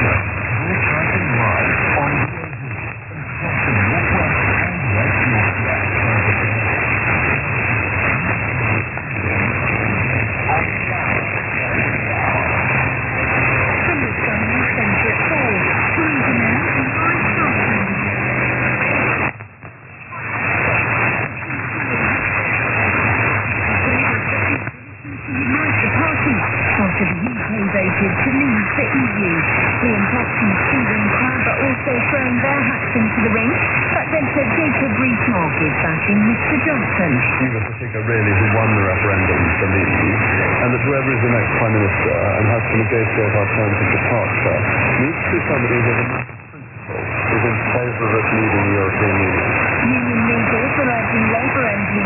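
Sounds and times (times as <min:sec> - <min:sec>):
faint radio voice: 0:00.0 - 0:12.8, 0:13.6 - 0:19.3, 0:20.0 - 0:52.0
radio hiss and static: 0:00.0 - 0:52.0.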